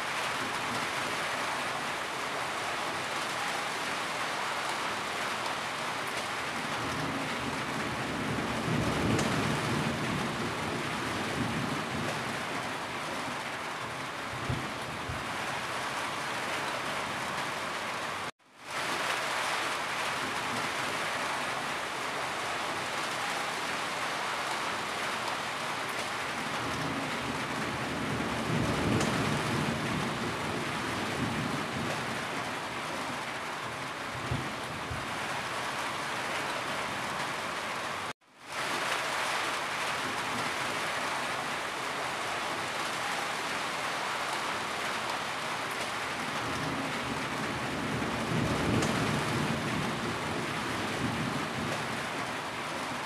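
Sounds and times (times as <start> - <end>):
rain on a tin roof: 0.0 - 53.0.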